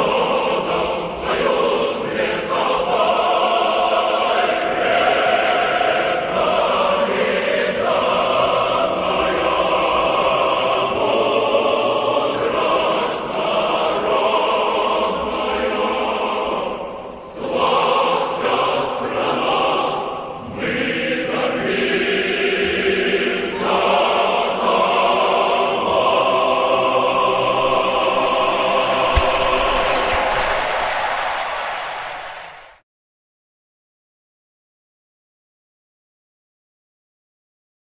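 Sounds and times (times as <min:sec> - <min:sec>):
choir singing long notes: 0:00.0 - 0:32.8.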